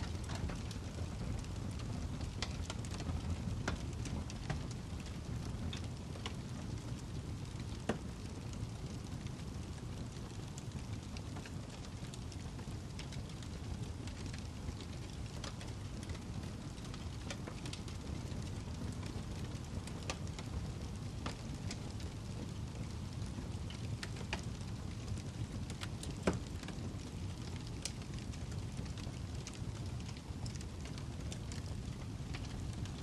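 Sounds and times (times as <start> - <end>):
log fire crackling and popping: 0.0 - 33.0.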